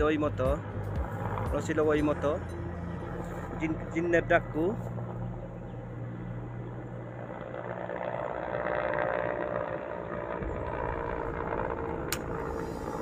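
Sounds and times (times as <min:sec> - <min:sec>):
distant helicopter flying over: 0:00.0 - 0:13.0.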